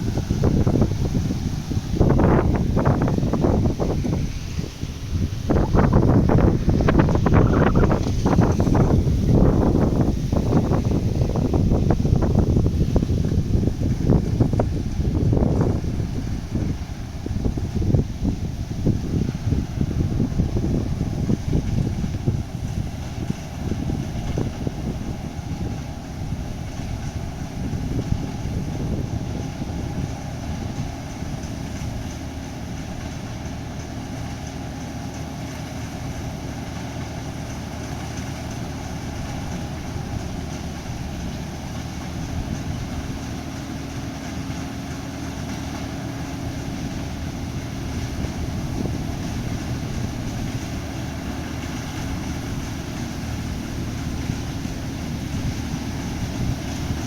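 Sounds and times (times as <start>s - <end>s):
combine harvester droning: 0.0s - 57.0s.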